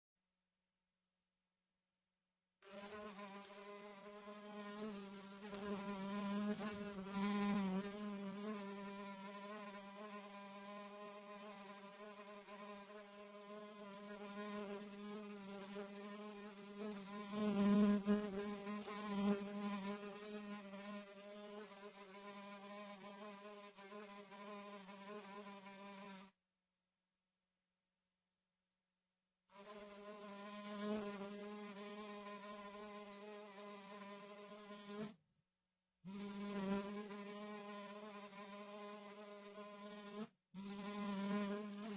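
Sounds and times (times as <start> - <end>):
fly buzzing: 2.6 - 26.4, 29.5 - 35.2, 36.1 - 41.9.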